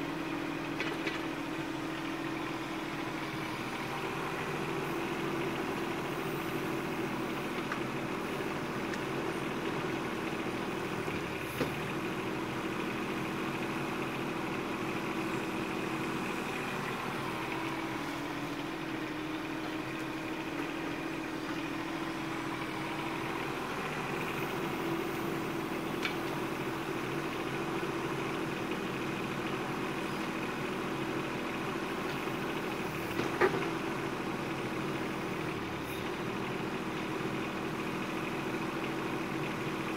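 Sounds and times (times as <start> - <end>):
mini excavator diesel engine: 0.0 - 39.9.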